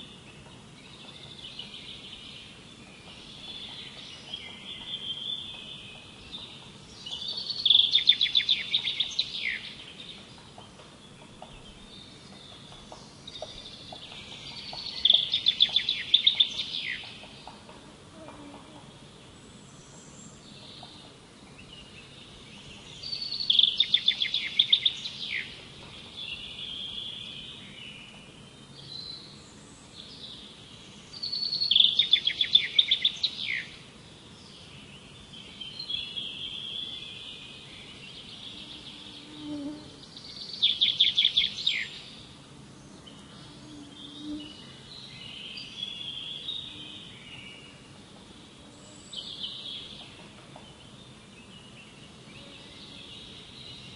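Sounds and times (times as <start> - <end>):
birds chirping softly: 0.0 - 53.9.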